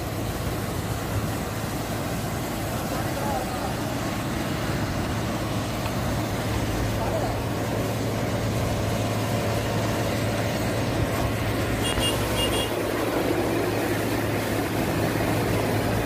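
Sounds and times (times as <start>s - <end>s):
machine engine humming: 0.0s - 16.0s.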